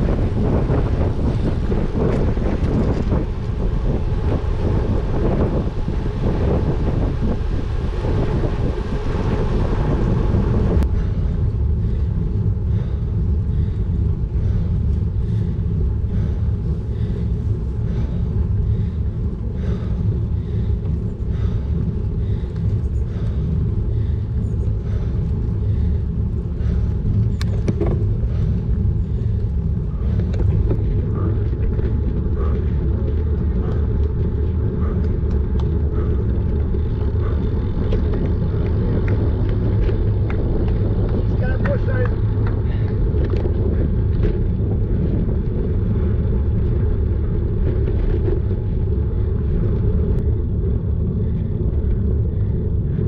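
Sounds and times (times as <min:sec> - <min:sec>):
wind noise on microphone: 0:00.0 - 0:53.0.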